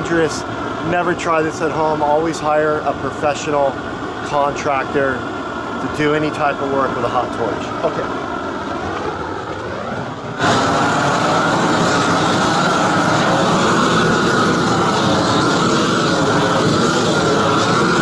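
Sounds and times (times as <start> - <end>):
roofing torch flame rushing: 0.0 - 18.0.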